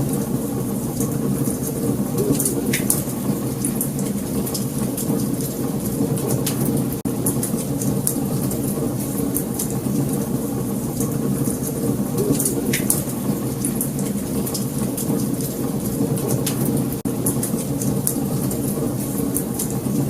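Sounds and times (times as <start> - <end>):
low rumble of flames: 0.0 - 20.0
wood fire crackles and pops: 0.0 - 20.0.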